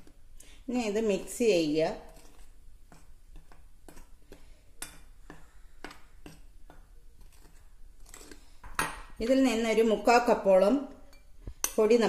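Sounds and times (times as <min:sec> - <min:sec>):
spoon stirring flour: 0:00.0 - 0:12.0.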